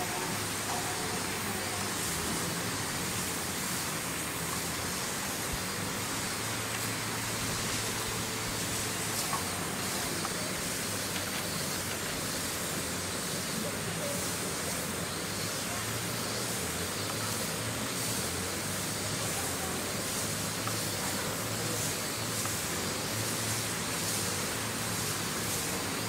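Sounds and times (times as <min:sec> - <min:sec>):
constant outdoor hiss: 0:00.0 - 0:26.0.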